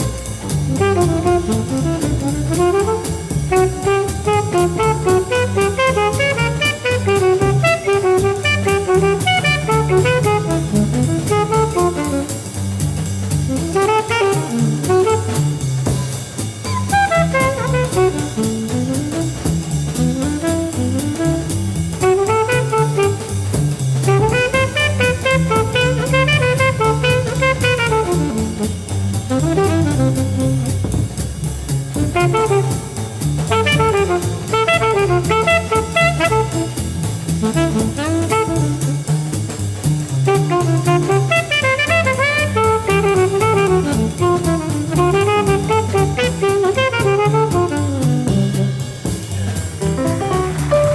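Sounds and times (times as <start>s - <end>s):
alto saxophone melody: 0.0s - 50.9s
double bass: 0.0s - 50.9s
drum kit playing swing: 0.0s - 50.9s.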